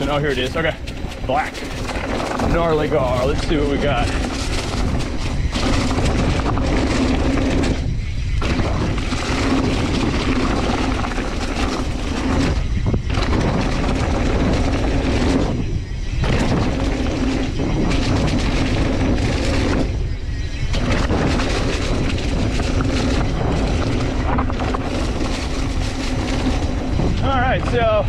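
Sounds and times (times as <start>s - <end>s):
bike frame rattle: 0.0s - 28.0s
bike tyre rumble on dirt: 0.0s - 28.0s
wind noise: 0.0s - 28.0s.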